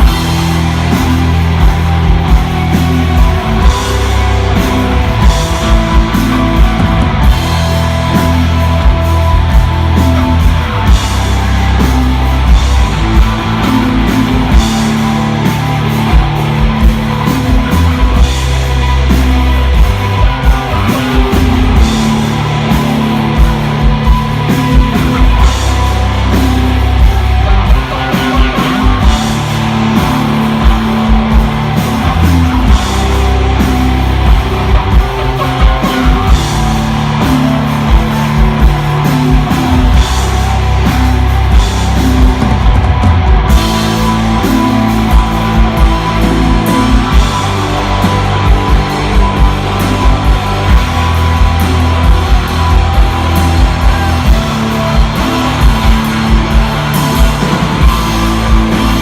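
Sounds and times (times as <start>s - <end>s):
drum kit beat: 0.0s - 59.0s
electric guitar: 0.0s - 59.0s
low bass notes: 0.0s - 59.0s.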